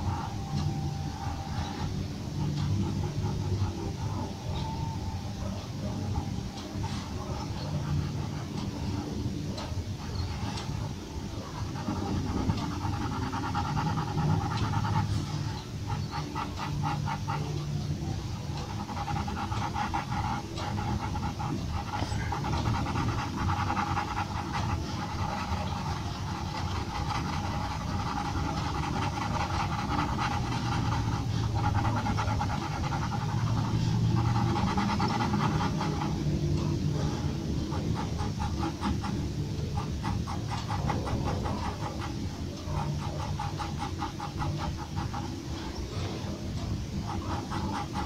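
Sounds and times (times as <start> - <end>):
pencil scratching on paper: 0.0 - 5.0, 5.8 - 48.0.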